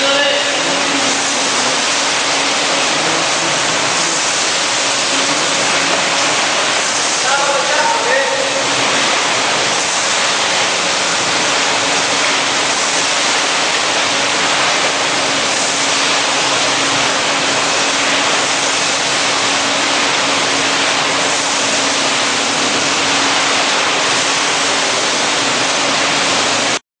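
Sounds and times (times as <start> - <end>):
low machinery hum: 0.0 - 26.8
machinery hissing: 0.0 - 26.8.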